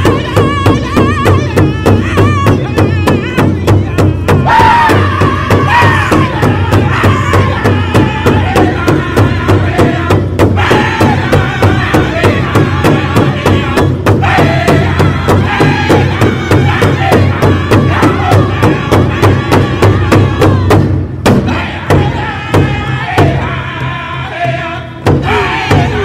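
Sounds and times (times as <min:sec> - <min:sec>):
singers chanting: 0:00.0 - 0:26.0
steady drumbeat: 0:00.0 - 0:26.0.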